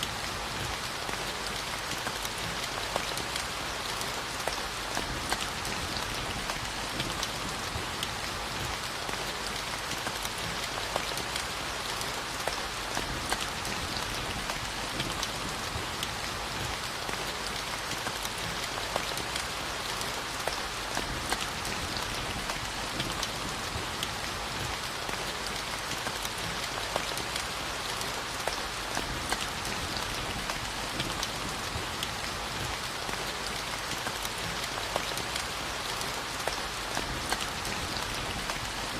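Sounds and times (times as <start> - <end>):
steady rainfall: 0.0 - 38.9
raindrops ticking: 0.1 - 38.9.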